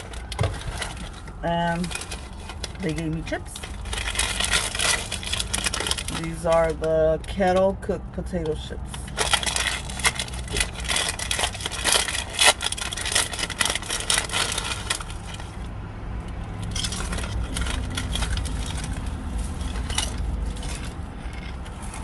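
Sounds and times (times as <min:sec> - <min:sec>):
potato chips crunching: 0:00.0 - 0:07.0, 0:08.8 - 0:15.7, 0:16.3 - 0:22.0
low steady rumble: 0:00.0 - 0:22.0.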